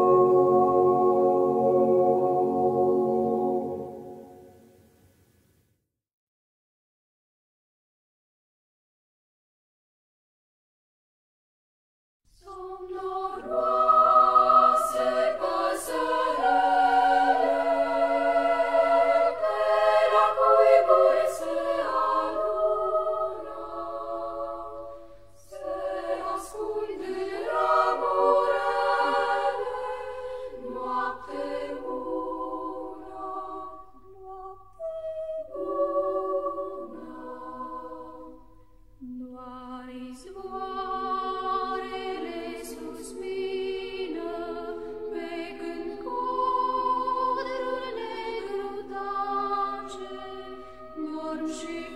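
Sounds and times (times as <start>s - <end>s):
choir singing: 0.0s - 5.0s, 12.3s - 51.9s.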